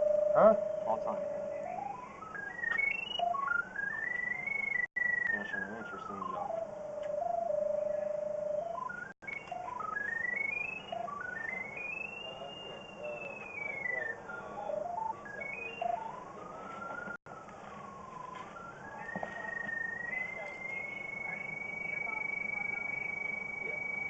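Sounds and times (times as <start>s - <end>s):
receiver tone stepping in pitch: 0.0s - 17.2s, 17.8s - 24.0s.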